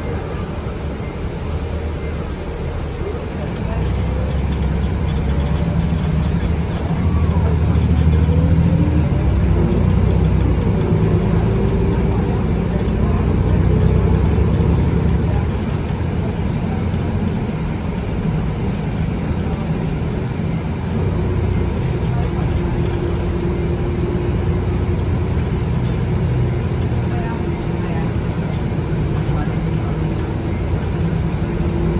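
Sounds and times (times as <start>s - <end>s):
diesel bus engine accelerating: 0.0s - 31.9s.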